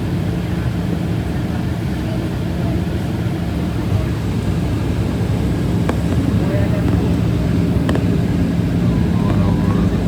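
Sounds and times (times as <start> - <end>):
light airplane engine droning: 0.0 - 10.0.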